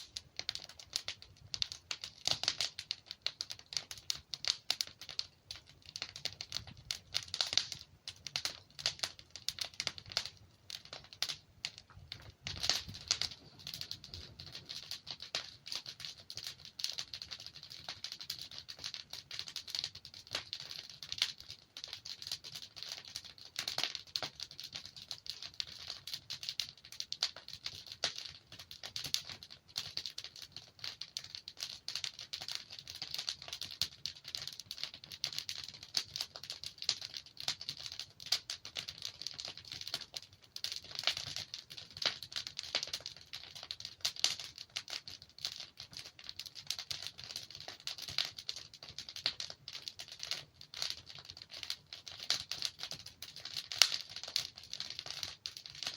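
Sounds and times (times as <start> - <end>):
burning logs crackling: 0.0 - 55.9.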